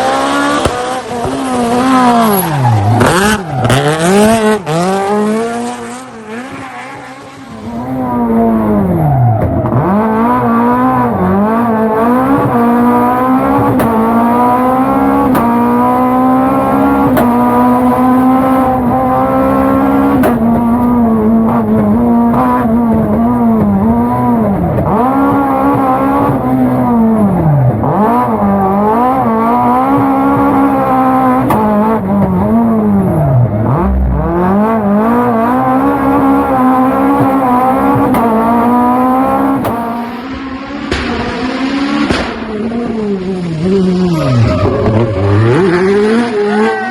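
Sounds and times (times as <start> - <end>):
rally car engine shifting gears: 0.0 - 46.9.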